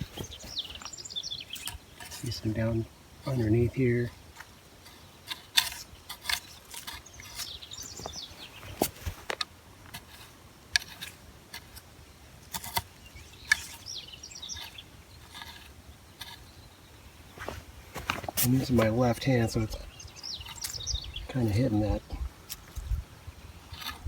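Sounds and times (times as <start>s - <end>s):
bird chirping: 0.0s - 9.2s, 12.6s - 24.0s
hand tool scraping soil: 0.0s - 24.0s.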